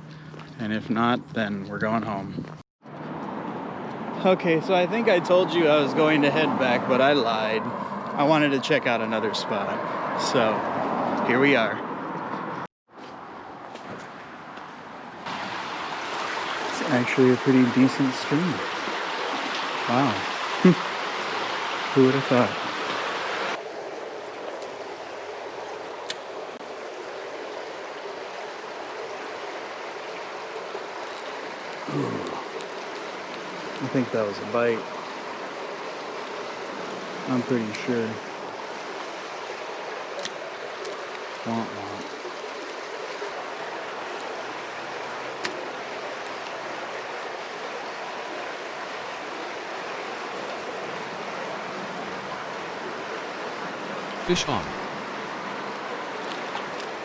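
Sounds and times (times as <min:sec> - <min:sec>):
stream water flowing: 0:03.1 - 0:11.7, 0:13.2 - 0:57.0.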